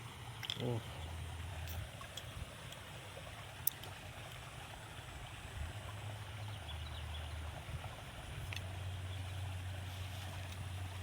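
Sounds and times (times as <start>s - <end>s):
water flowing in a ditch: 0.0s - 11.0s.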